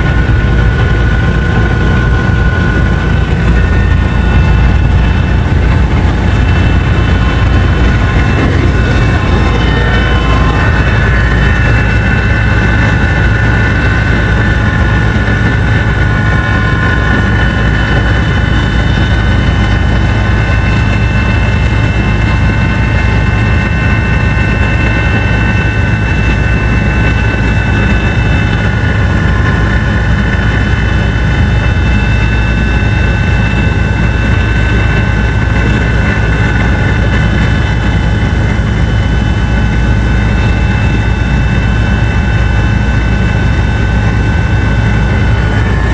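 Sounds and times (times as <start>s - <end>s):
helicopter engine and rotors drone: 0.0s - 45.9s
high whining tones: 0.0s - 45.9s.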